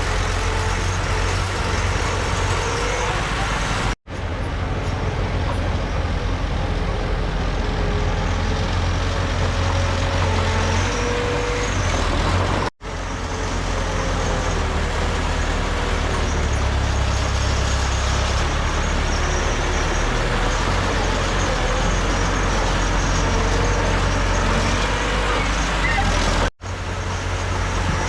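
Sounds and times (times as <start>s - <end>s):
heavy diesel engines droning: 0.0s - 28.0s.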